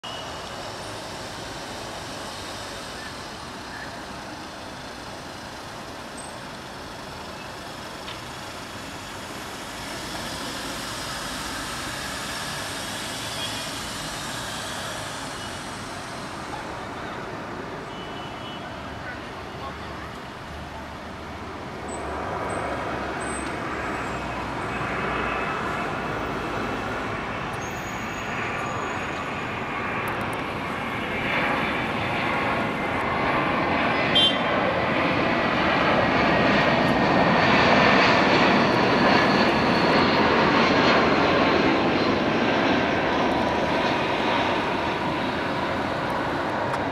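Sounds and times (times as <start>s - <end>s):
jet aircraft passing overhead: 0.0s - 46.9s.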